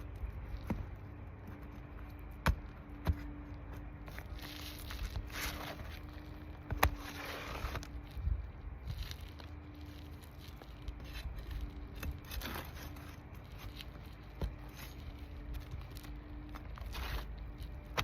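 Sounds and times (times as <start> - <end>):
shingles scraping: 0.0 - 18.0
steady low rumble: 0.0 - 18.0.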